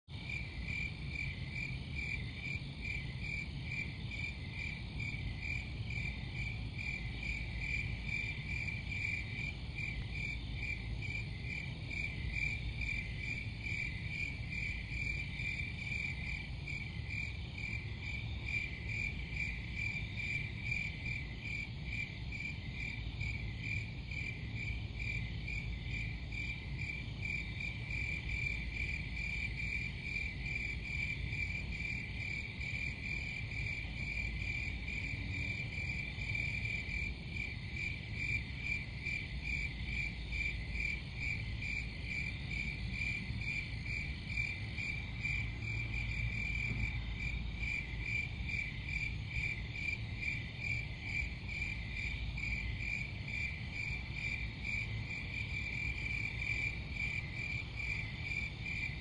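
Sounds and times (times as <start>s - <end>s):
crickets chirping: 0.1s - 59.0s.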